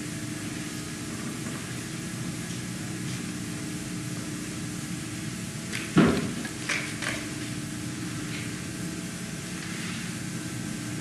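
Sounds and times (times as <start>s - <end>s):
recording hiss and hum: 0.0s - 11.0s.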